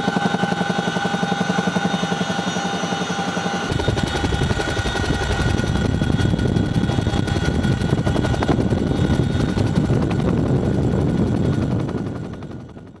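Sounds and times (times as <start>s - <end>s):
helicopter rotors beating: 0.0s - 13.0s
turbine whine: 0.0s - 13.0s.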